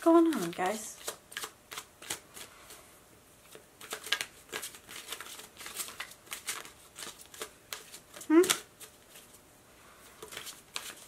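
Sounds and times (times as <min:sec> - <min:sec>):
cards being shuffled: 0:00.0 - 0:02.8, 0:03.4 - 0:09.4, 0:10.1 - 0:11.0.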